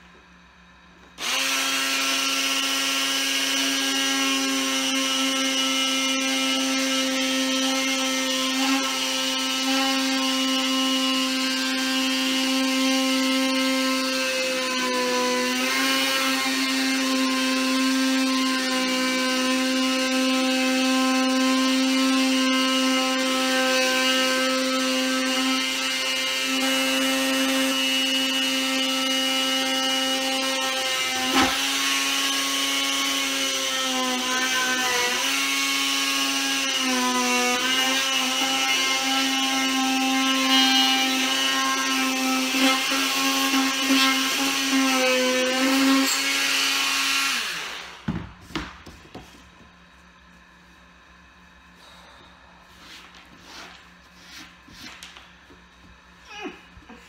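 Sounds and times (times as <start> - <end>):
power tool cutting vinyl: 1.0 - 48.2.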